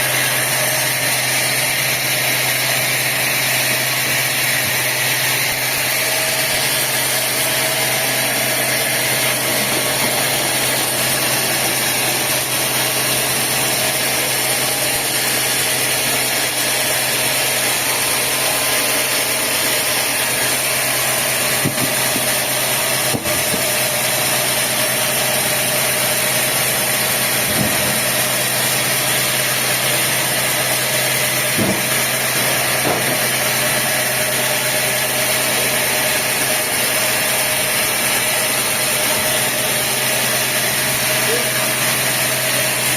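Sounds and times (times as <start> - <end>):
sawmill machinery humming: 0.0 - 42.9.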